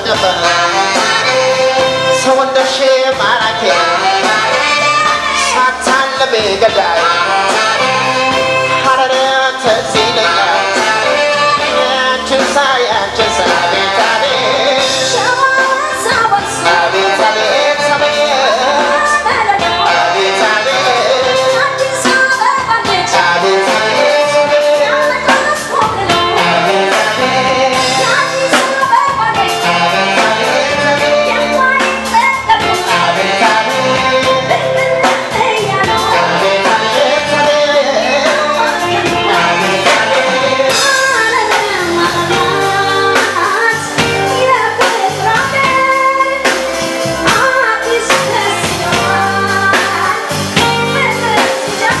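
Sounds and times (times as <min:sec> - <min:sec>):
bass guitar: 0:00.0 - 0:52.0
drum kit: 0:00.0 - 0:52.0
electric guitar: 0:00.0 - 0:52.0
keyboard: 0:00.0 - 0:52.0
woman singing: 0:00.0 - 0:52.0.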